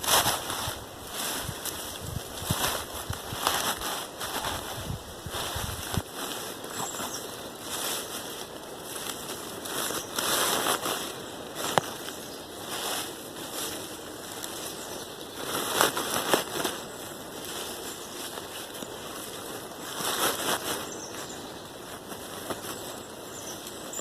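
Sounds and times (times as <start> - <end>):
dry leaves rustling: 0.0 - 24.0.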